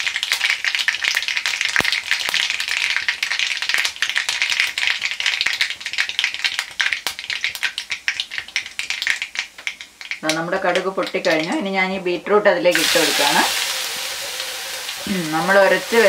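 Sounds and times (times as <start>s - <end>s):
seeds popping in hot oil: 0.0s - 11.7s, 12.7s - 16.0s
frying sizzle: 0.0s - 16.0s.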